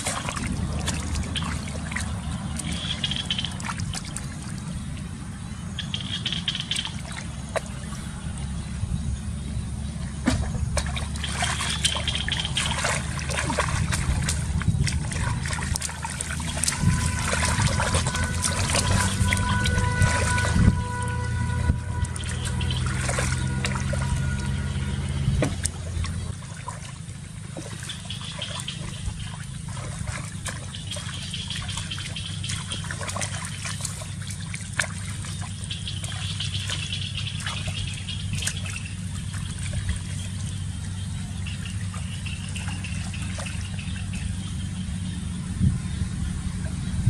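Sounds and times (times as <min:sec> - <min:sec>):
steady low hum: 0:00.0 - 0:47.0
water splashing and trickling: 0:00.0 - 0:47.0.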